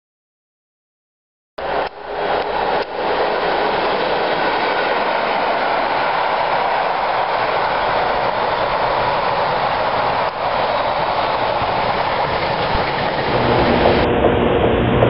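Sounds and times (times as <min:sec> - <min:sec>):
freight train wheels on rails: 0:01.6 - 0:15.0.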